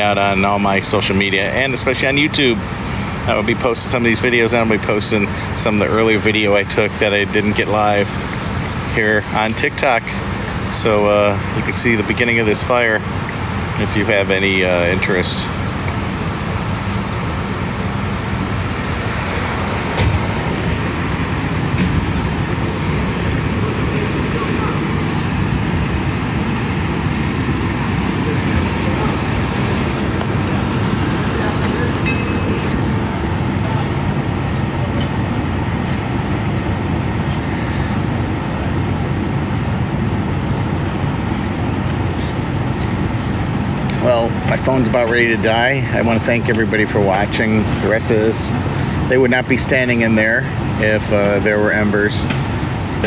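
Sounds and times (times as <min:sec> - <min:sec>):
vehicle engines idling: 0:00.0 - 0:53.0.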